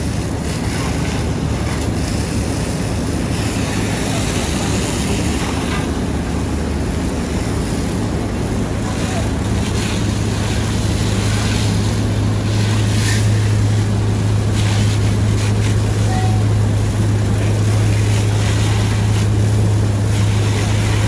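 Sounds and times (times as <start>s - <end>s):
diesel engine droning: 0.0s - 21.0s
water hiss: 0.0s - 21.0s.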